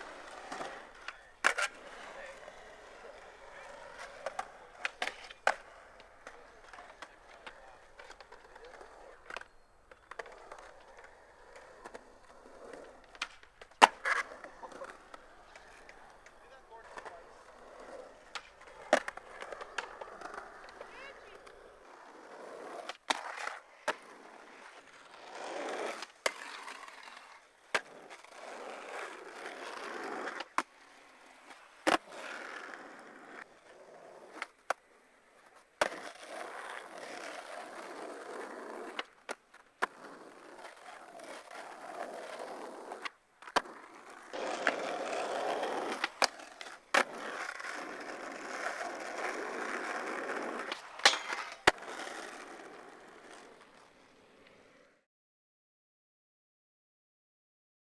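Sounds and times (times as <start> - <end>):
skateboard popping and landing: 0.0 - 54.9
skateboard grinding on rail: 0.0 - 55.0
skateboard wheels rolling on concrete: 0.0 - 55.1.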